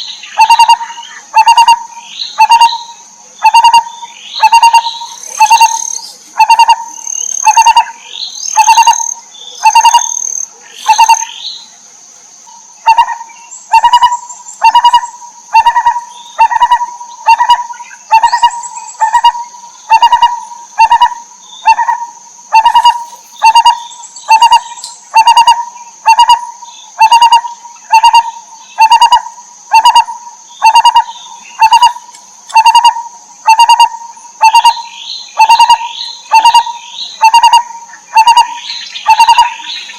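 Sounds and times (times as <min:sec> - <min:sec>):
bird calling low note: 0:00.2 - 0:10.2, 0:10.8 - 0:11.4, 0:12.8 - 0:39.8.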